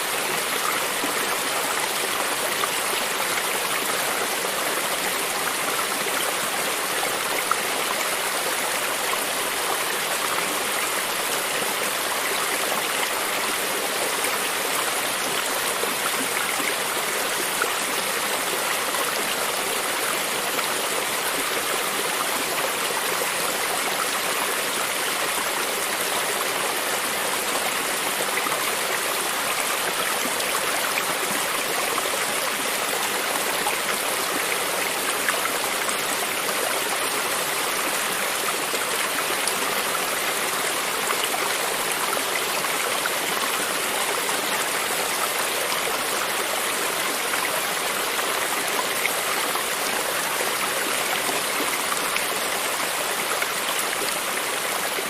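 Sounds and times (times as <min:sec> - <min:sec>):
stream water running over rocks: 0:00.0 - 0:55.0.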